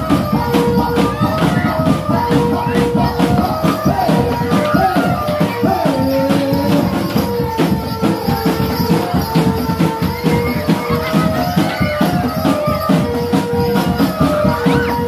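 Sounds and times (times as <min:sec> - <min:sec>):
fast dense drumming: 0:00.0 - 0:15.0
held melody line bending in pitch: 0:00.0 - 0:15.0
jingling percussion: 0:00.0 - 0:15.0.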